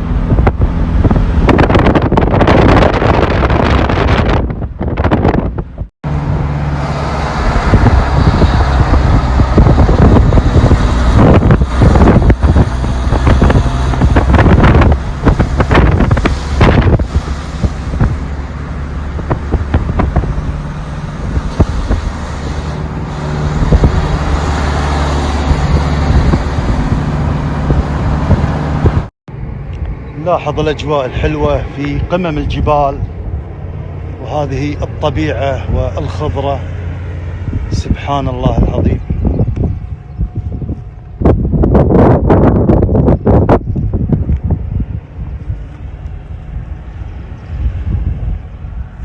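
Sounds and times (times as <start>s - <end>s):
vehicle engine drone: 0.0s - 49.0s
wind buffeting microphone: 0.0s - 49.0s.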